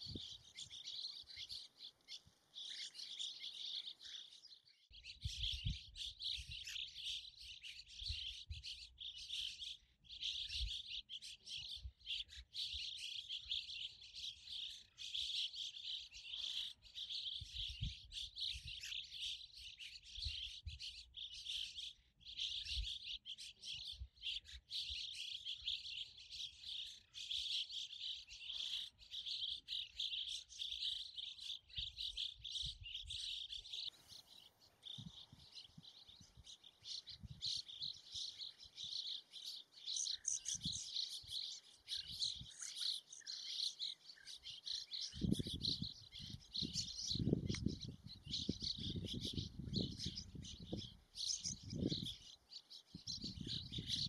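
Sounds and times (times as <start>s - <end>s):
swallows chirping and twittering: 0.0s - 54.0s.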